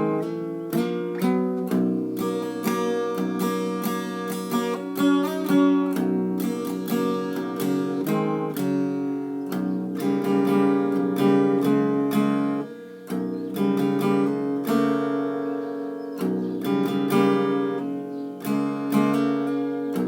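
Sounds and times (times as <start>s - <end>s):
acoustic guitar melody: 0.0s - 20.0s.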